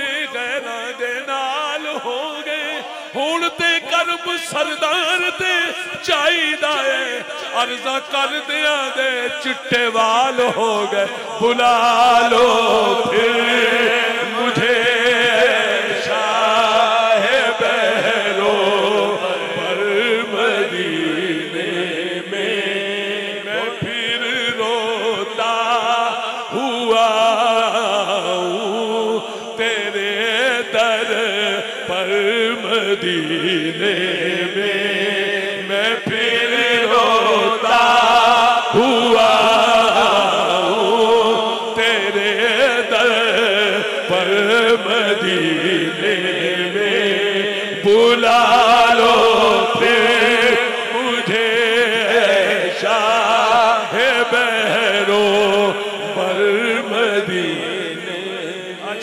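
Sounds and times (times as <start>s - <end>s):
man chanting: 0.0s - 59.0s.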